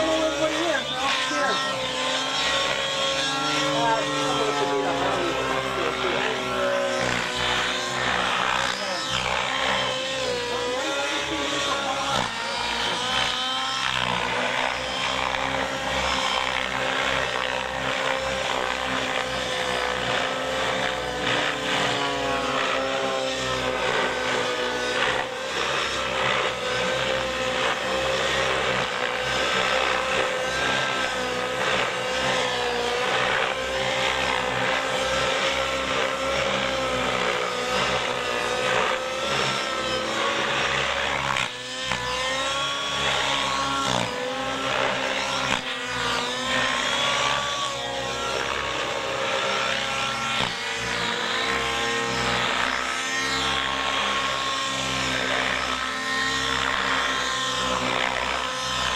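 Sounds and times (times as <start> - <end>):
model helicopter engine whine: 0.0 - 58.9.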